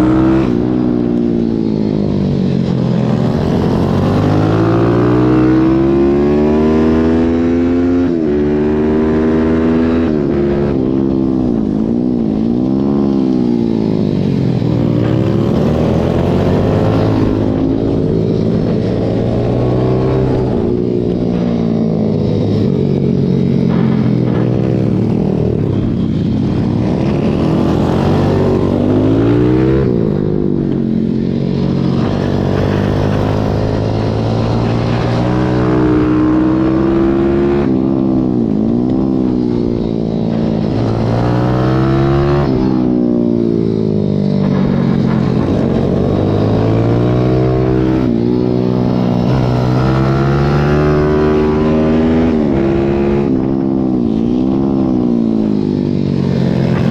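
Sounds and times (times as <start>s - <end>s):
motorbike engine revving: 2.4s - 56.9s.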